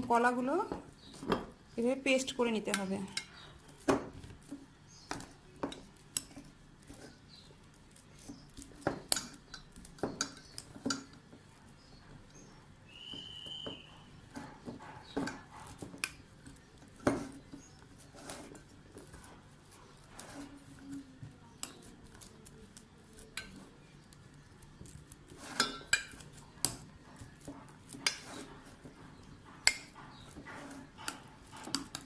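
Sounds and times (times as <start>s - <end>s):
utensil scraping a bowl: 0.0s - 32.0s.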